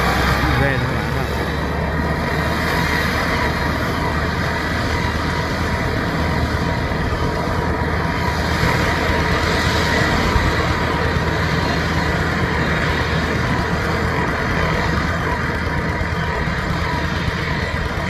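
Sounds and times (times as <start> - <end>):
road noise: 0.0 - 18.0
vehicle engine drone: 0.0 - 18.0.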